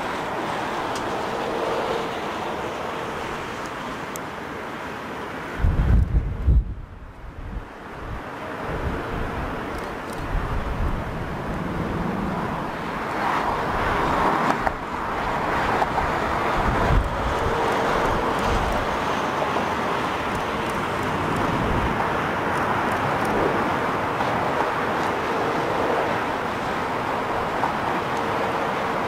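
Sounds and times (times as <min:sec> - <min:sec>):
jet engine rush: 0:00.0 - 0:29.0
wind buffeting microphone: 0:05.6 - 0:29.0.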